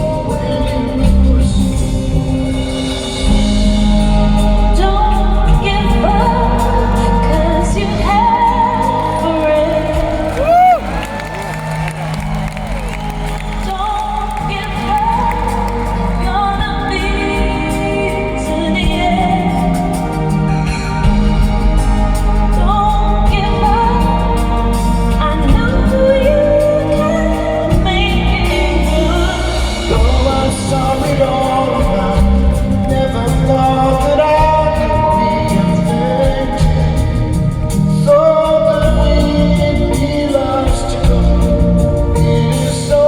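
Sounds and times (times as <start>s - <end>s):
live band music with singing: 0.0s - 43.0s.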